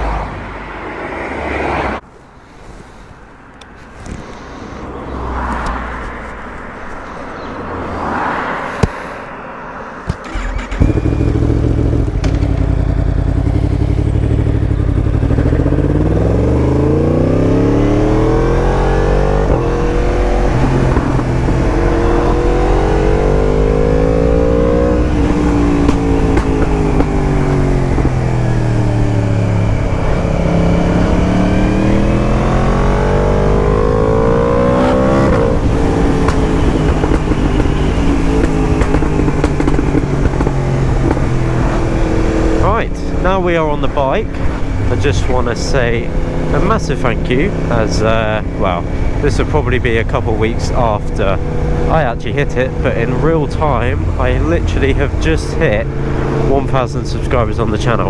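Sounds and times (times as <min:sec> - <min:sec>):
motorcycle engine revving: 0:10.1 - 0:58.0.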